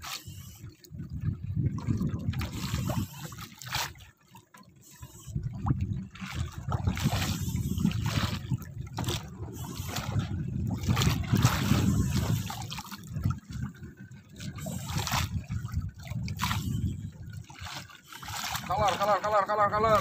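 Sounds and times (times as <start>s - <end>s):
water splashing against boat: 0.0s - 20.0s.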